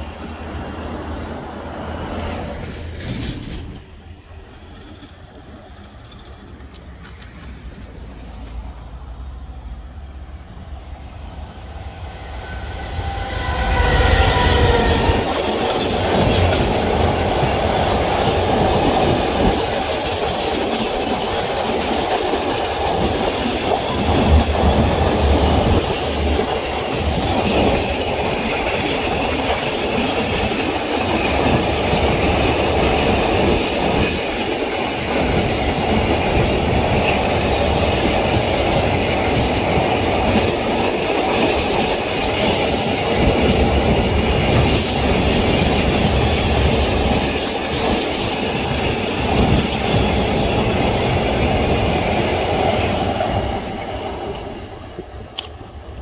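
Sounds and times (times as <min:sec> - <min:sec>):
freight train rolling past: 0:00.0 - 0:56.0
steel wheels clattering on rails: 0:02.4 - 0:08.0, 0:13.8 - 0:55.6.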